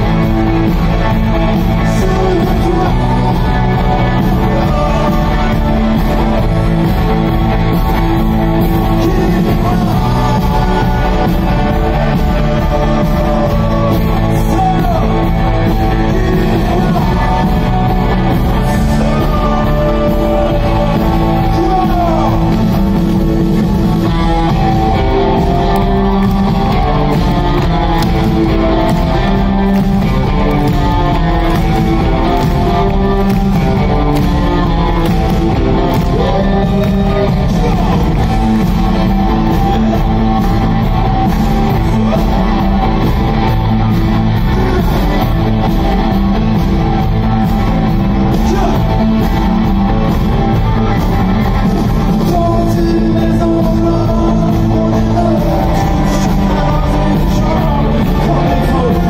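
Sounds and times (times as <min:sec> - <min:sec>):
drum beat: 0:00.0 - 0:59.0
electric guitars: 0:00.0 - 0:59.0
live rock band: 0:00.0 - 0:59.0
person singing: 0:00.0 - 0:59.0.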